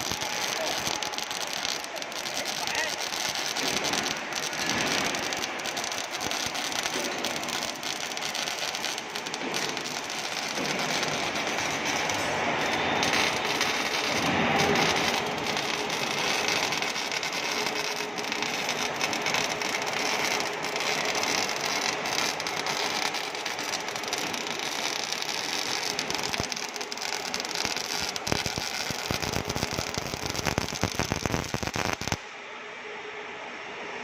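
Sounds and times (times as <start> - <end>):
welding arc crackling: 0.0 - 32.2.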